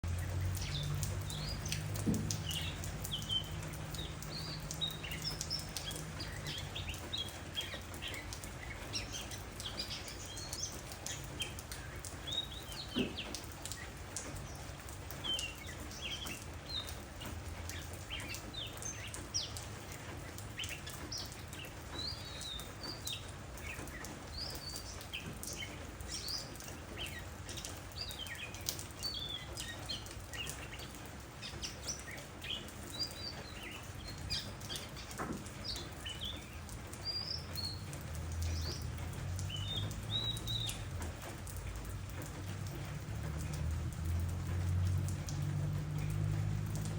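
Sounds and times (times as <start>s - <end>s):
rain pattering: 0.0s - 46.9s.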